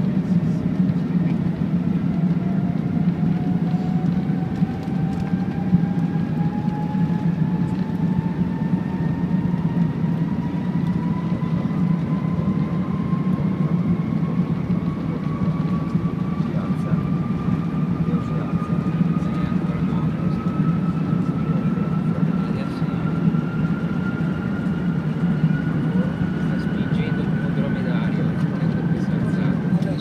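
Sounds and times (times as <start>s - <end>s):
airliner cabin rumble: 0.0s - 30.0s
jet engine whine rising: 0.0s - 30.0s.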